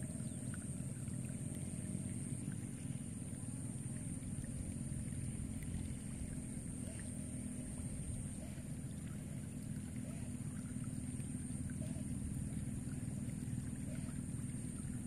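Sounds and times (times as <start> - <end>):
faint chirps: 0.0 - 15.0.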